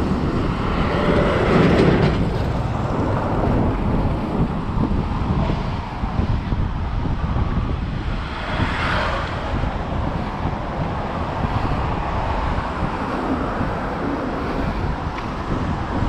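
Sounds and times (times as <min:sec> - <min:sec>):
cars passing: 0:00.0 - 0:16.0
wind buffeting microphone: 0:00.0 - 0:16.0.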